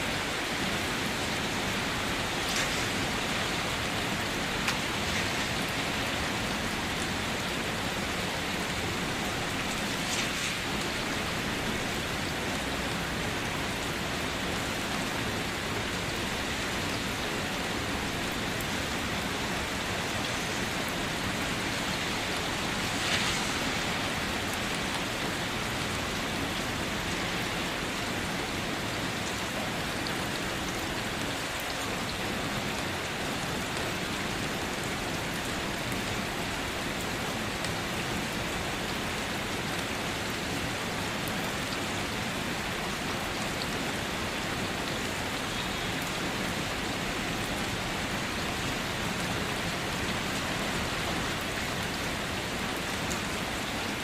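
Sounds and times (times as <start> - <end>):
rain falling on leaves: 0.0 - 54.0
raindrops splashing: 0.0 - 54.0.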